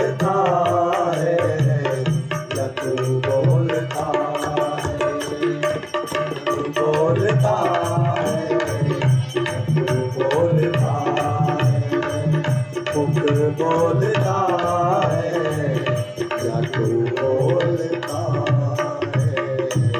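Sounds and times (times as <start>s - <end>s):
tabla playing a rhythm: 0.0s - 19.9s.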